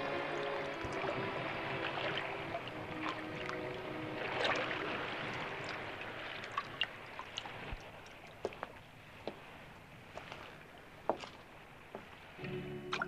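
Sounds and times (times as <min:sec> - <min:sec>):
small drips and splashes: 0:00.0 - 0:13.0
water lapping around boats: 0:00.0 - 0:13.0.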